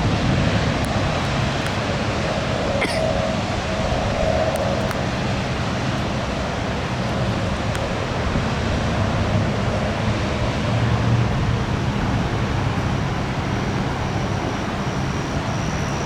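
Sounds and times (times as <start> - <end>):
gusty wind: 0.0 - 16.0.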